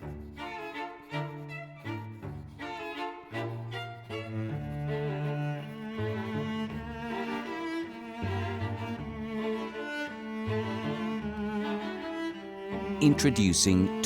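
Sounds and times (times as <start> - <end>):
bowed strings music: 0.1 - 13.0.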